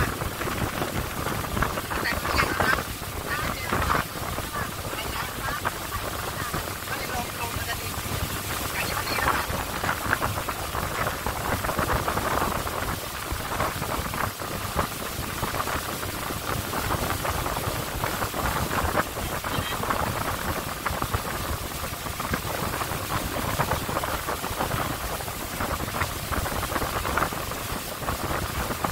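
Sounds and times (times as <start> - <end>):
water rushing past boat hull: 0.0 - 28.9.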